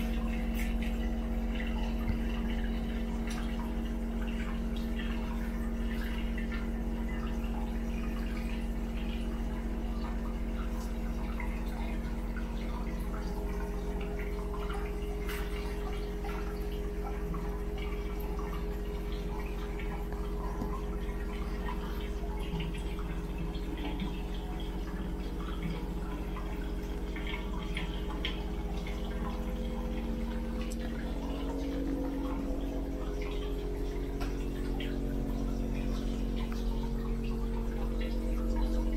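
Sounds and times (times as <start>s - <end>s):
constant low hum: 0.0s - 38.9s
water trickling into a bathtub: 0.0s - 38.9s.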